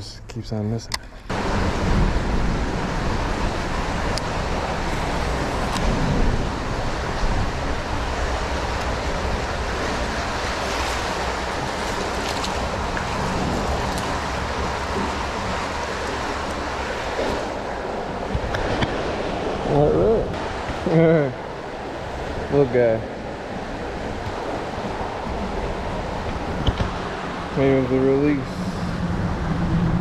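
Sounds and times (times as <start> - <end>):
creek water rushing: 1.3 - 30.0.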